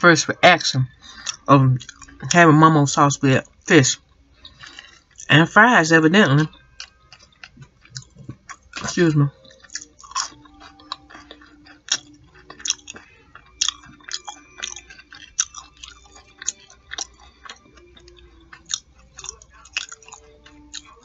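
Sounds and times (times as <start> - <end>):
person chewing food: 0.6 - 21.0.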